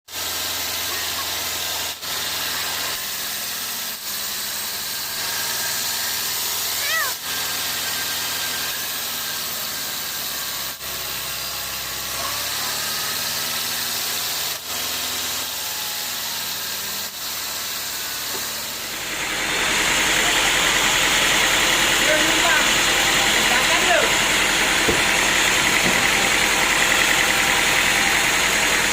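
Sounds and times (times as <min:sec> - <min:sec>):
broad machinery hiss: 0:00.1 - 0:28.9
sawmill engine hum: 0:00.1 - 0:28.9.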